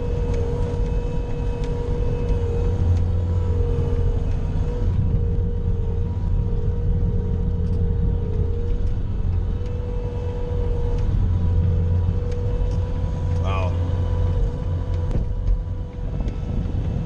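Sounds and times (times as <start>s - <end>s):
skid steer engine rumbling: 0.0s - 17.0s.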